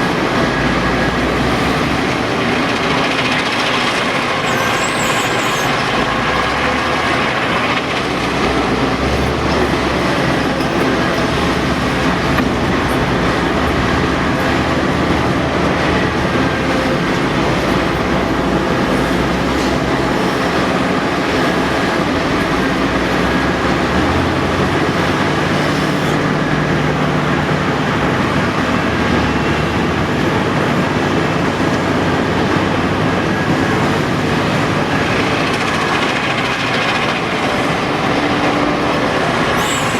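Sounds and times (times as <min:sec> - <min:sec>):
heavy diesel machinery working: 0:00.0 - 0:39.9.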